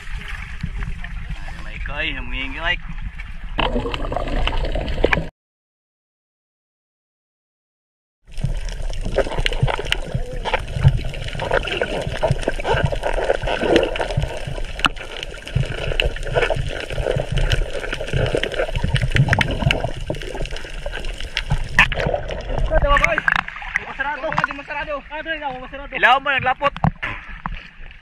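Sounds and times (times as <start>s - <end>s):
crackling clicks and bubbling: 0.0s - 5.3s, 8.2s - 28.0s
underwater rush of moving water: 0.0s - 5.3s, 8.3s - 28.0s.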